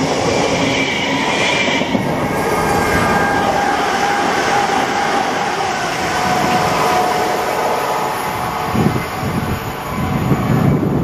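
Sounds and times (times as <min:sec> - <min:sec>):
electric train running: 0:00.0 - 0:11.0
steady train whine: 0:00.0 - 0:11.0
wind buffeting microphone: 0:00.0 - 0:11.0.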